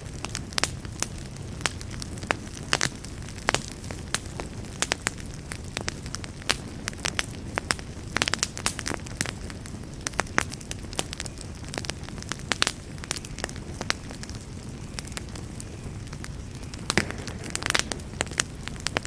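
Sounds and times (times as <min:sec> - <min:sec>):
fire low rumble: 0:00.0 - 0:19.0
wood fire crackles and pops: 0:00.0 - 0:19.0.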